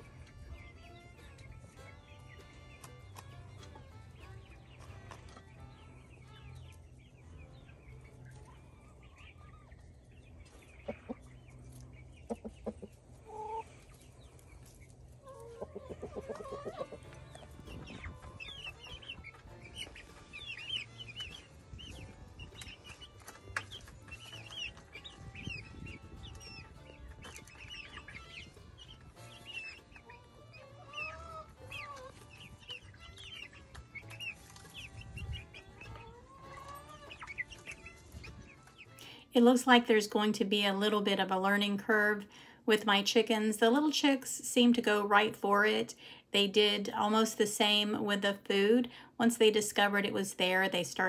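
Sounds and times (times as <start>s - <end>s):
hens clucking: 0.0s - 51.0s.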